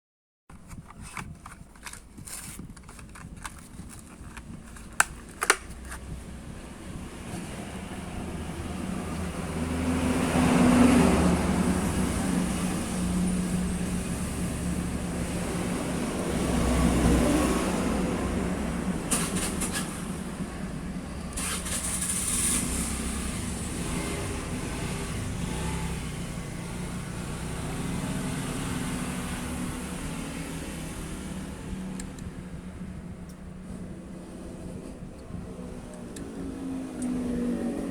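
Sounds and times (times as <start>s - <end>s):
motor vehicles passing: 5.9s - 37.9s.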